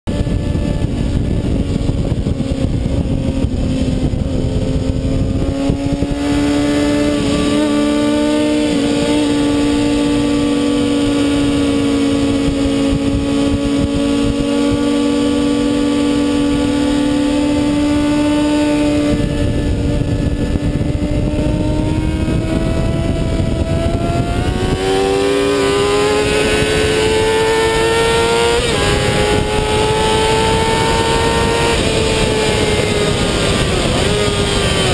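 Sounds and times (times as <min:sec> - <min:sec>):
motorcycle engine at speed: 0:00.0 - 0:34.9
wind rush on microphone: 0:00.0 - 0:34.9.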